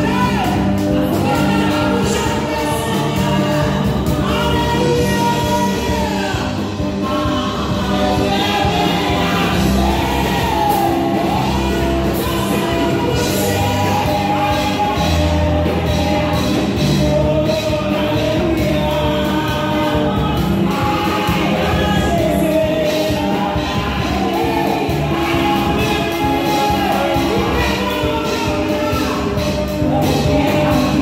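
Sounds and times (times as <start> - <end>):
band accompaniment: 0.0 - 31.0
woman singing into microphone: 0.0 - 31.0.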